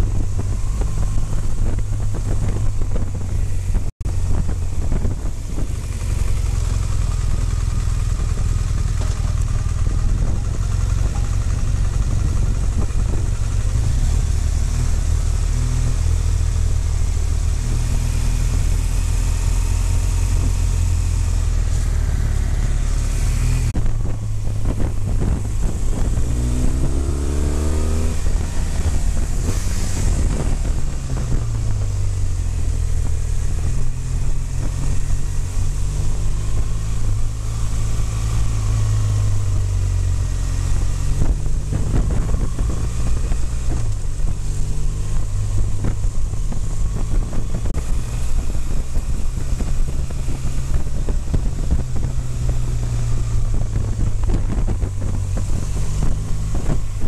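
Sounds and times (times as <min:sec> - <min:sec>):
motorcycle engine running: 0:00.0 - 0:57.0
wind on microphone: 0:00.0 - 0:57.0.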